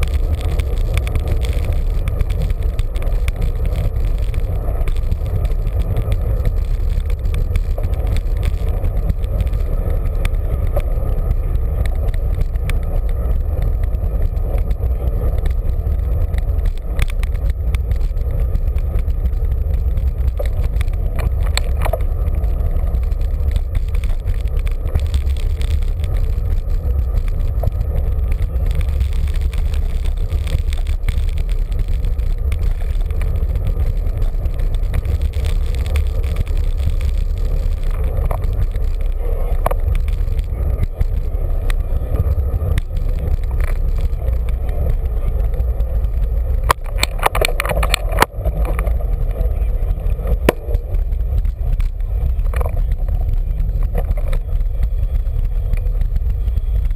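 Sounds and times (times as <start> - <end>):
bicycle tyre and road noise: 0.0 - 56.9
wind buffeting microphone: 0.0 - 56.9.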